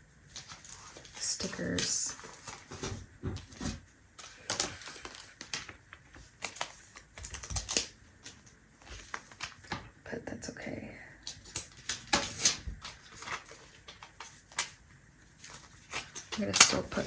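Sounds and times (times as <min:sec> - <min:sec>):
hands handling paper: 0:00.2 - 0:09.9, 0:11.3 - 0:17.0.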